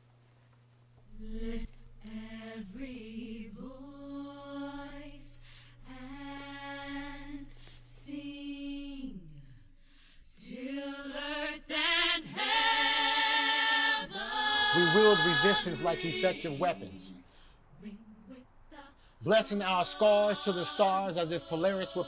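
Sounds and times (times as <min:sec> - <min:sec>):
a cappella voices singing: 0:01.0 - 0:22.0.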